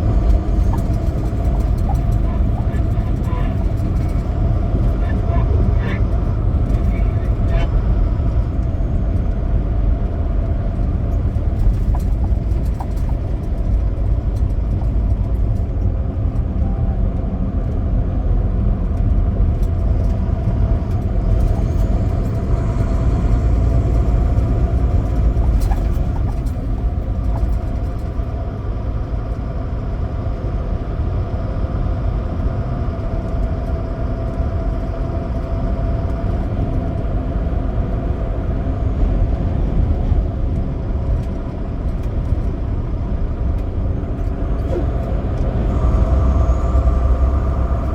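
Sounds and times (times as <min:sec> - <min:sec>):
truck diesel engine rumble: 0:00.0 - 0:47.9.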